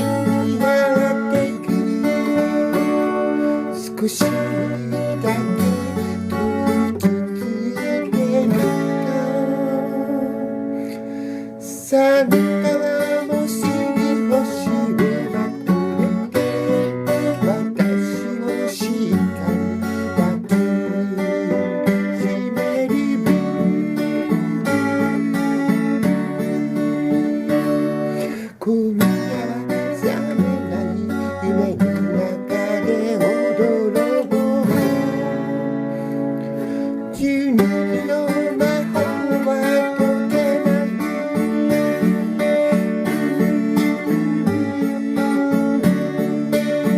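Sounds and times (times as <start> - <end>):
acoustic guitar strummed and picked: 0.0 - 46.9.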